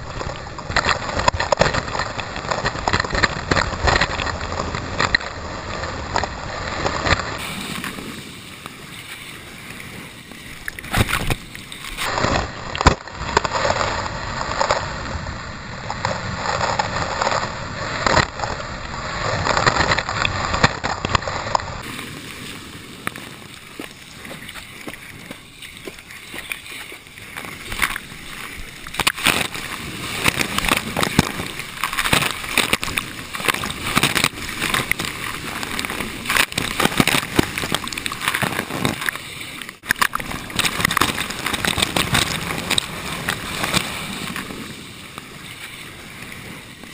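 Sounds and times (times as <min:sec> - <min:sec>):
water gurgling: 0:00.0 - 0:44.7.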